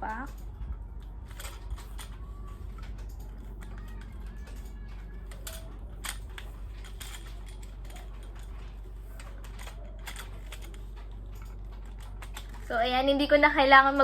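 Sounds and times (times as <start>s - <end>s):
tripod legs clicking and rattling: 0.0s - 12.9s
steady low hum: 0.0s - 14.0s.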